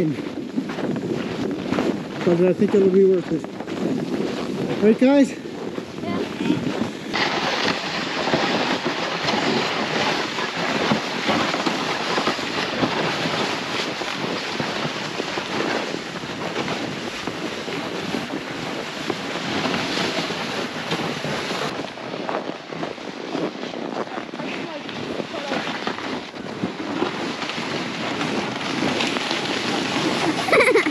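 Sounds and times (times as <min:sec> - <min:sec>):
footsteps crunching in snow: 0:00.0 - 0:30.9
sled scraping over snow: 0:00.0 - 0:30.9
wind buffeting microphone: 0:00.0 - 0:30.9.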